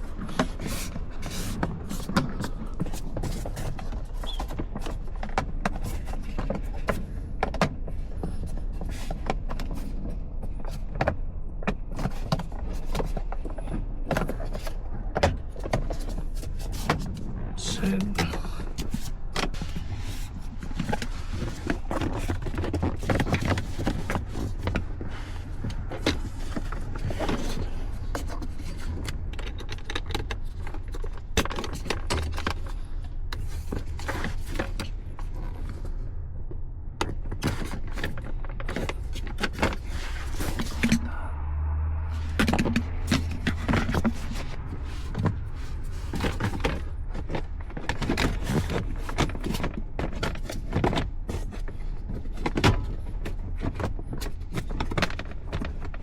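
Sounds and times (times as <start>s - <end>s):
steady low hum: 0.0s - 55.5s.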